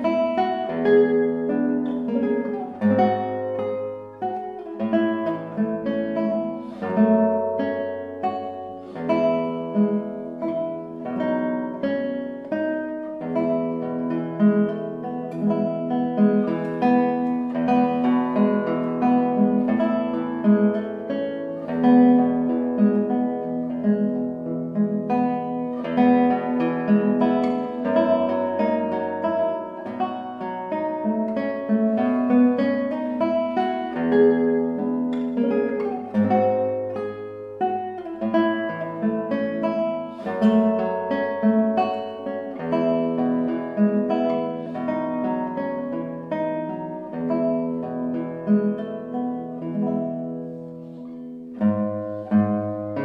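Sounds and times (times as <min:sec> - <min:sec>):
classical guitar music: 0:00.0 - 0:53.0.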